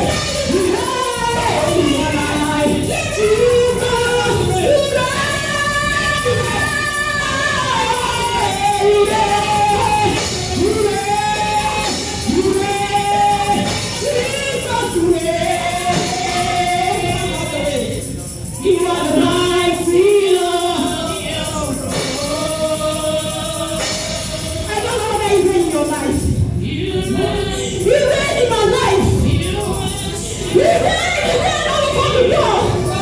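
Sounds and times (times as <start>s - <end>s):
group singing gospel: 0.0s - 33.0s
tambourine: 0.0s - 33.0s.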